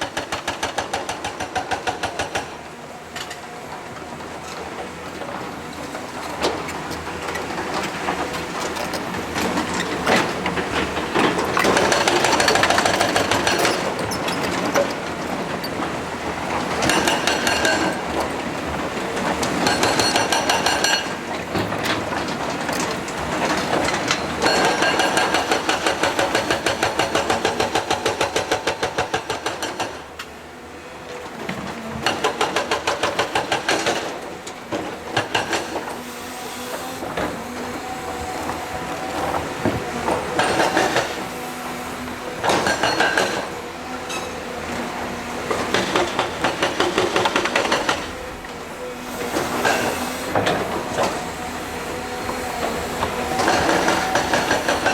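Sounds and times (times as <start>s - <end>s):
heavy machinery running: 0.0s - 54.9s.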